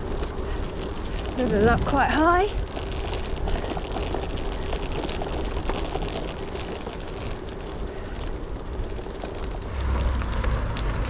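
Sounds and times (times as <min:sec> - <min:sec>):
road and tyre noise: 0:00.0 - 0:11.0
wind buffeting microphone: 0:00.0 - 0:11.0.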